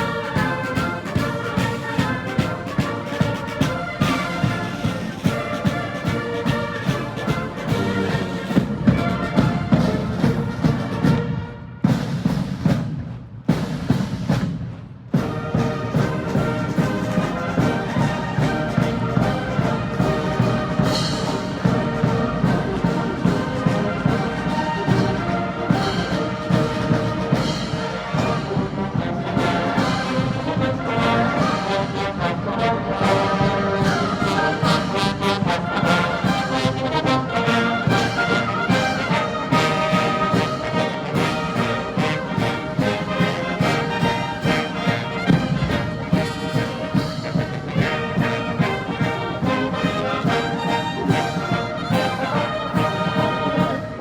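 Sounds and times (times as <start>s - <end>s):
military band playing a march: 0.0s - 54.0s.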